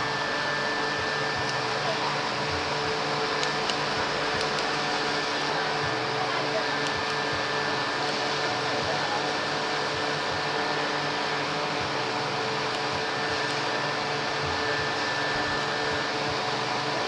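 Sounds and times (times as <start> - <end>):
machine whir: 0.0 - 17.0.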